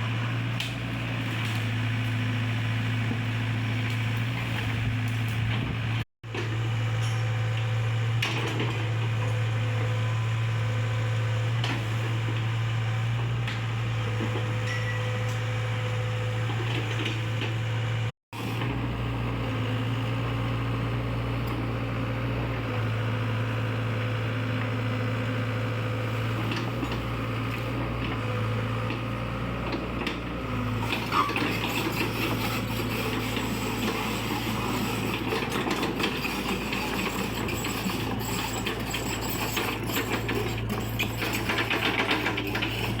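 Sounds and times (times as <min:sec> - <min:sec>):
excavator diesel engine droning: 0:00.0 - 0:43.0.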